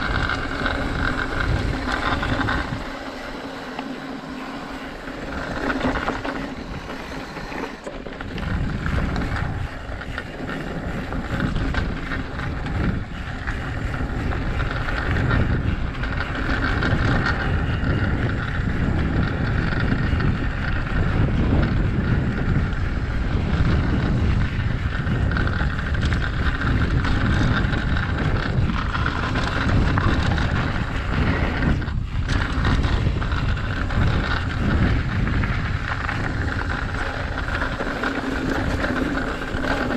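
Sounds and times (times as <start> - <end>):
bike rattling over rough ground: 0.0 - 39.9
bike tyres on dirt: 0.0 - 39.9
wind buffeting microphone: 0.0 - 39.9.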